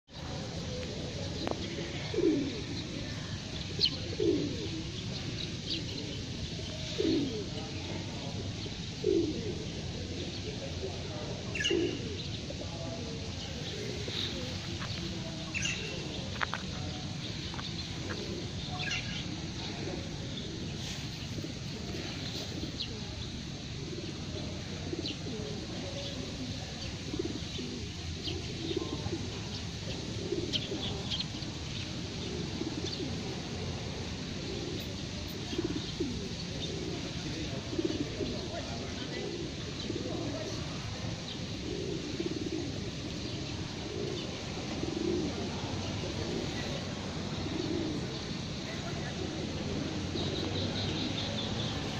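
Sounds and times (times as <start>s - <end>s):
pigeons cooing: 0.2s - 51.9s.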